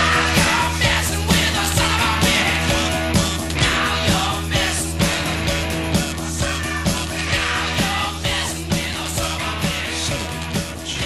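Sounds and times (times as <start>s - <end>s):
loud rock music: 0.0s - 11.0s
steady drum beat: 0.0s - 11.0s.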